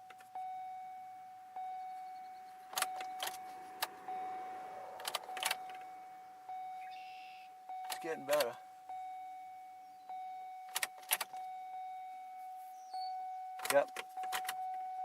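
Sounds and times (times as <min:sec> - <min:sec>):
car warning chime dinging: 0:00.0 - 0:15.0.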